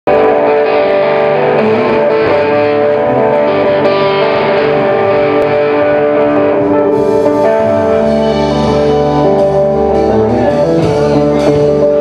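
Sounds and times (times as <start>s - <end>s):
electric guitar ringing notes: 0.1s - 12.0s
live rock band playing: 0.1s - 12.0s.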